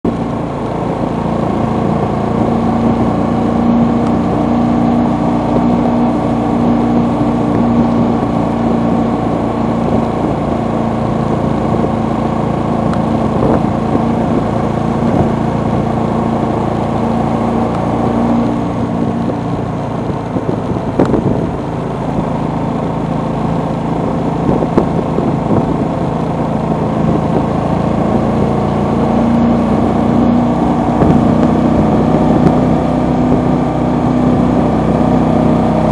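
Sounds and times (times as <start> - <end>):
motorcycle engine cruising: 0.0 - 35.9.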